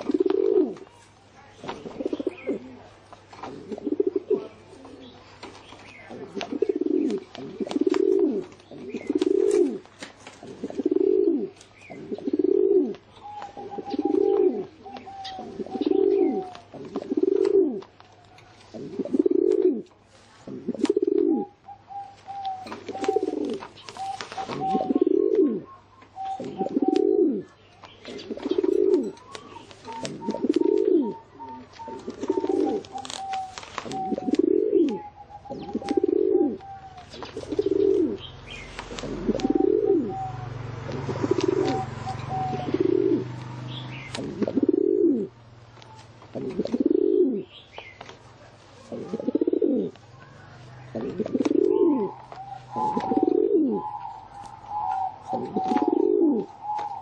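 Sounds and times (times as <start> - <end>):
pigeon cooing: 0.0 - 1.0, 1.6 - 57.0.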